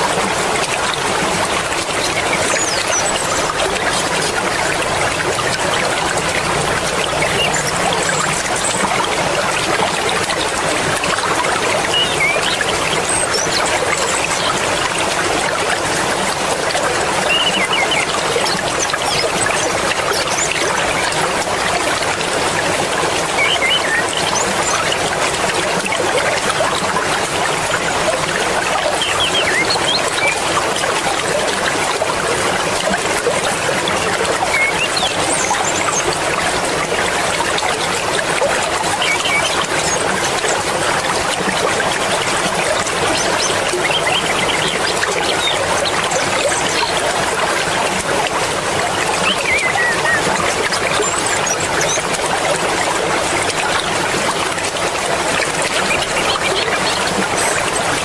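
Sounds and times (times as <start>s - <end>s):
river rushing and babbling: 0.0s - 58.0s.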